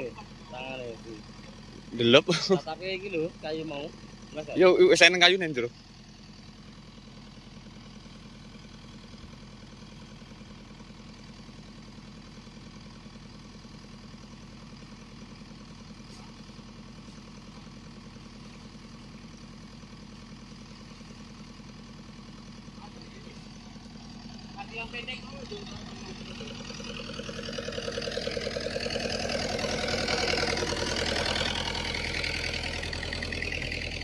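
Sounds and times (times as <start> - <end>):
excavator engine idling: 0.0 - 34.0.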